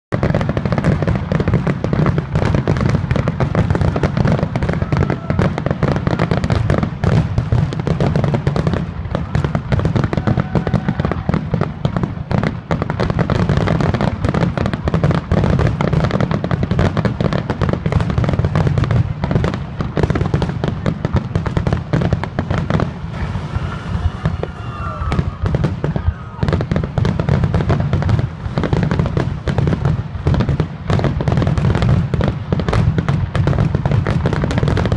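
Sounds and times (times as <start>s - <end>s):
fireworks barrage of bangs: 0.1s - 34.9s.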